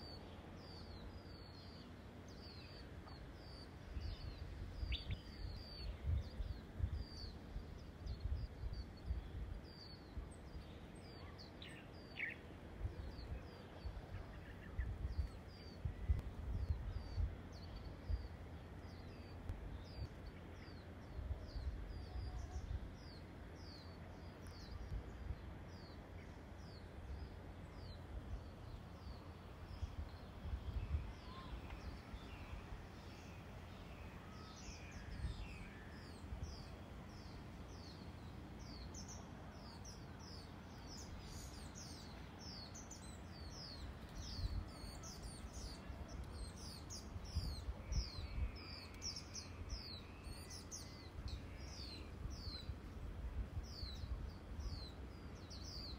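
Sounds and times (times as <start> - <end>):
small birds chirping: 0.0 - 55.9
wind rumbling on microphone: 0.0 - 55.9.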